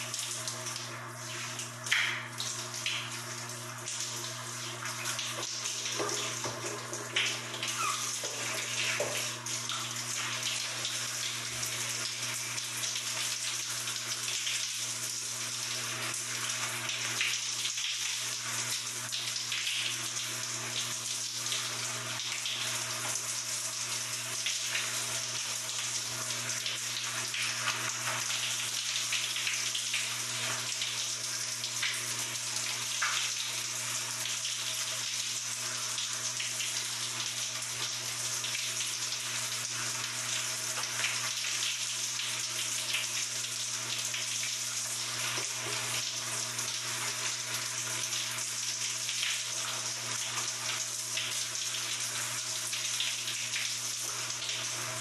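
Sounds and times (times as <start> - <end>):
shower spraying water: 0.0 - 55.0.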